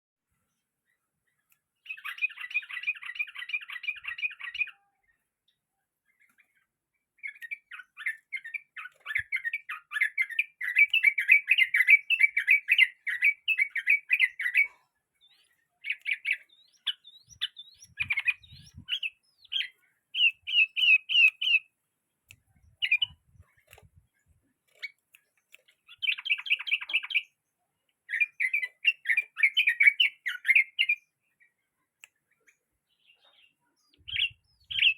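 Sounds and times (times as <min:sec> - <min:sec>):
bird singing rapid chattering notes: 0:00.9 - 0:21.7, 0:22.3 - 0:34.9.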